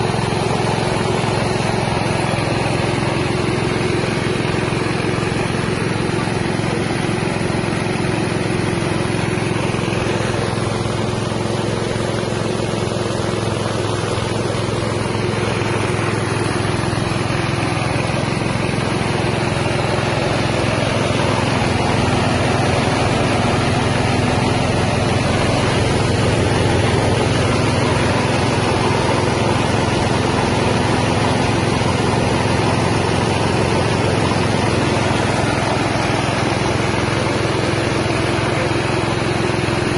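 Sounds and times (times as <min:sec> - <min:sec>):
engine drone: 0:00.0 - 0:39.9
rice milling machine running: 0:00.0 - 0:39.9.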